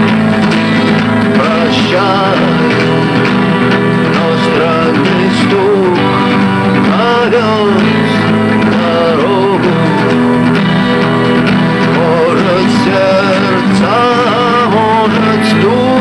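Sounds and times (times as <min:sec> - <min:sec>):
acoustic guitar: 0:00.0 - 0:16.0
person singing: 0:00.0 - 0:16.0.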